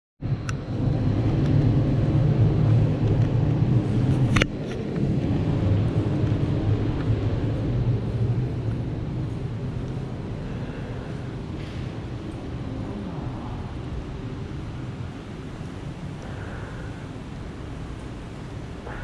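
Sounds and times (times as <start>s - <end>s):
city street traffic rumble: 0.2s - 19.0s.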